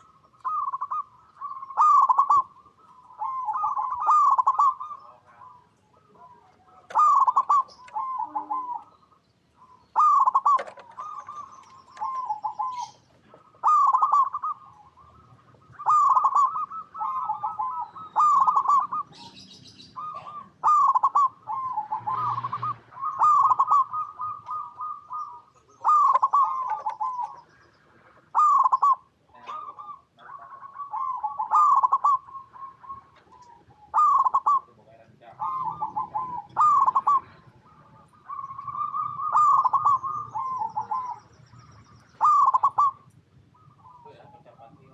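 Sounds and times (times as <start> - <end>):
dove rolling coos: 0.0 - 44.9.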